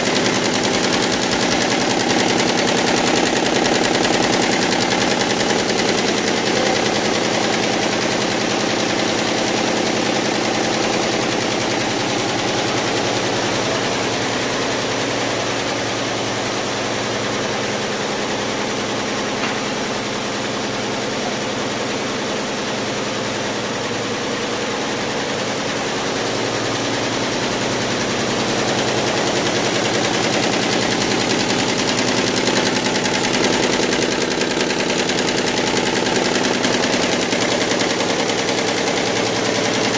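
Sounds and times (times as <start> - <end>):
embroidery machine clattering: 0.0 - 20.4, 23.5 - 39.9.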